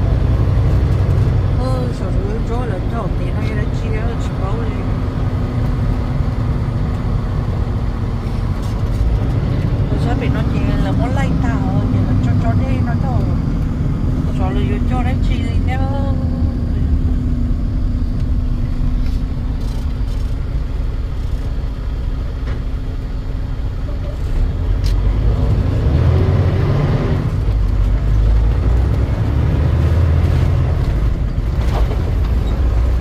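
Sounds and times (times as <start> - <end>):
truck engine rumble: 0.0 - 33.0.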